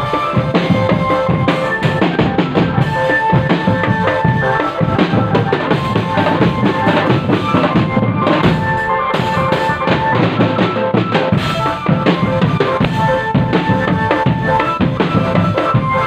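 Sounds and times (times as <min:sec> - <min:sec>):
bass drum beats: 0:00.0 - 0:16.0
held melodic tones: 0:00.0 - 0:16.0
rapid snare drum beats: 0:00.0 - 0:16.0.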